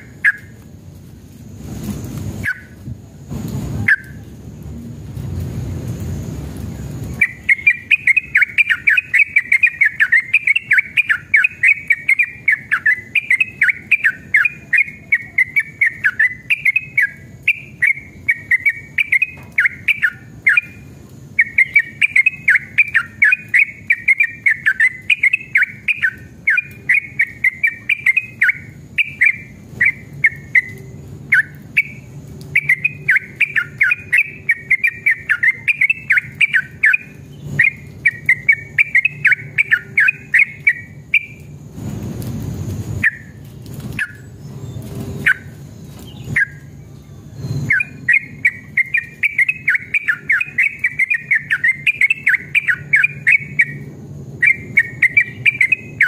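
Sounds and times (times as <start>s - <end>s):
bird singing chirping notes: 7.1s - 41.5s, 43.0s - 43.4s, 44.0s - 56.0s.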